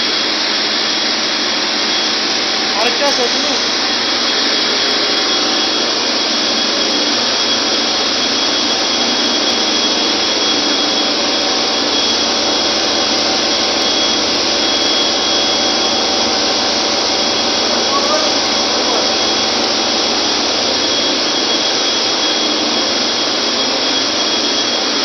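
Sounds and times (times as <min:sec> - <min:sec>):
engine room roar: 0:00.0 - 0:25.0
high machinery whine: 0:00.0 - 0:25.0.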